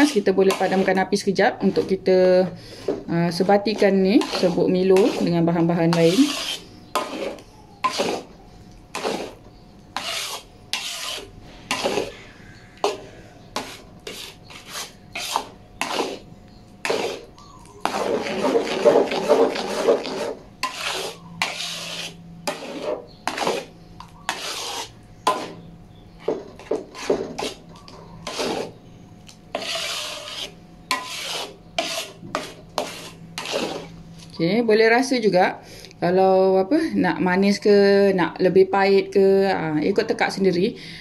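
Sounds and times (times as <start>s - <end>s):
metal spatula scraping wok: 0.0s - 28.8s, 29.5s - 34.0s.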